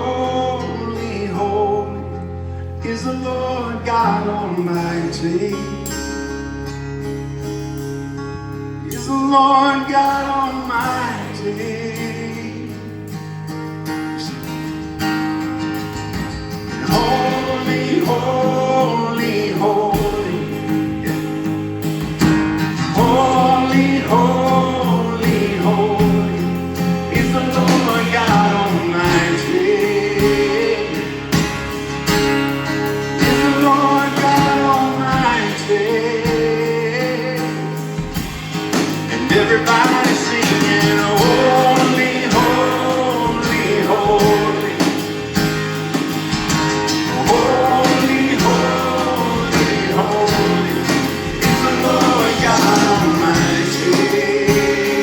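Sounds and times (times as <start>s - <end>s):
people singing: 0.0s - 2.2s, 8.9s - 13.0s, 16.1s - 55.0s
worship band playing: 0.0s - 55.0s.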